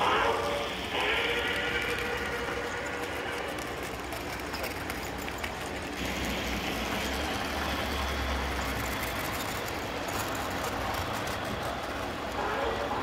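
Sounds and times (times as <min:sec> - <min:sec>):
model train wheels rumbling on rail: 0:00.0 - 0:13.0.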